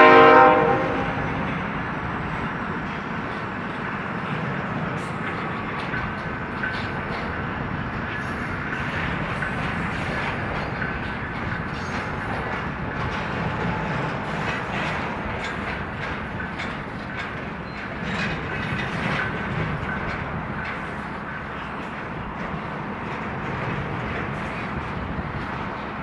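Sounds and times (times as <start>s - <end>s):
rail clicks: 0.0s - 26.0s
train wheels rumbling on rail: 0.0s - 26.0s.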